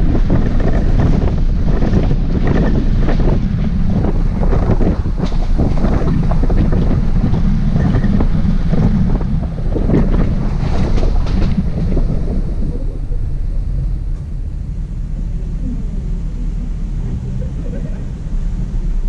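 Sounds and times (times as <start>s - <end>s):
truck knocking and rattling: 0.0s - 17.4s
truck engine rumble: 0.0s - 19.0s
wind buffeting microphone: 0.0s - 19.0s.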